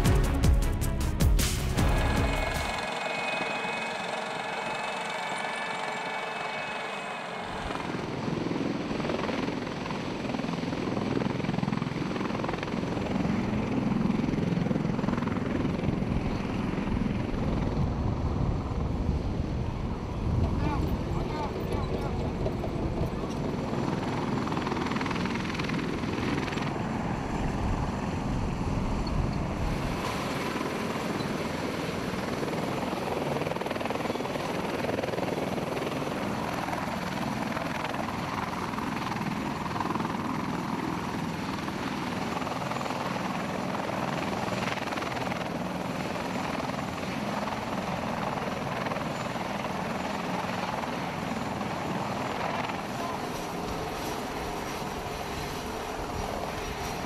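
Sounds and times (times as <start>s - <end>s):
helicopter rotors running: 0.0s - 57.0s.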